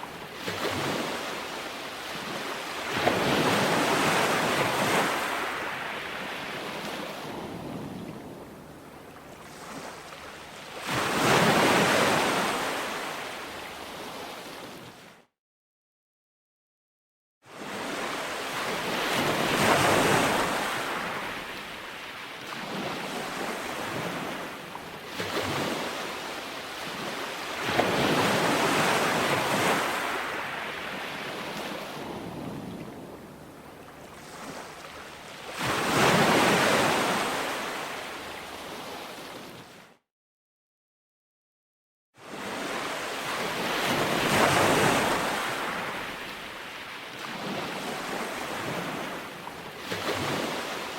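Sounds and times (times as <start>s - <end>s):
ocean waves breaking on beach: 0.0s - 15.3s, 17.5s - 40.0s, 42.2s - 50.9s.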